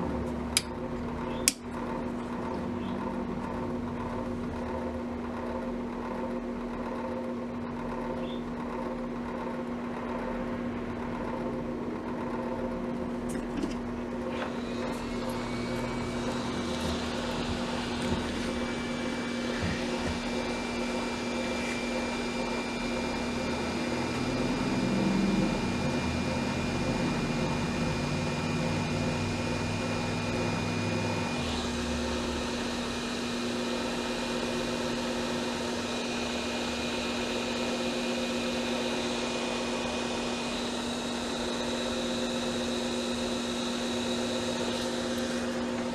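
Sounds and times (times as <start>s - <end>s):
heat gun fan humming: 0.0s - 45.9s.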